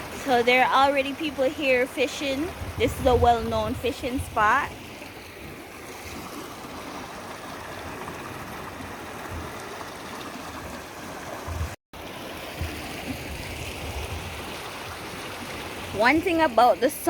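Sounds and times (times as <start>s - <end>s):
sea water splashing over rocks: 0.0s - 17.0s.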